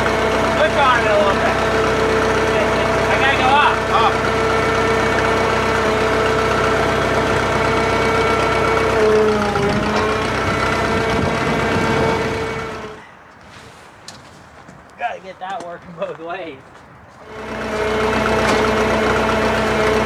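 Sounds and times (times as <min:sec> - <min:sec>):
crane engine running: 0:00.0 - 0:13.2, 0:17.1 - 0:20.0.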